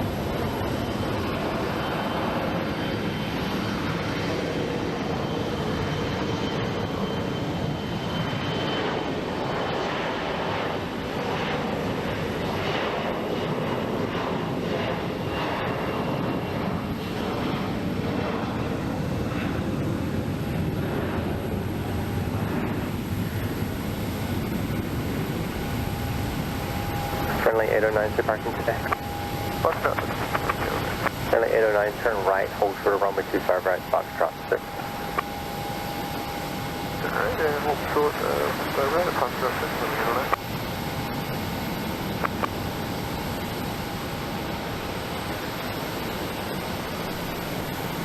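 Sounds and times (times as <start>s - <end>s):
jet engines at takeoff power: 0.0s - 48.0s.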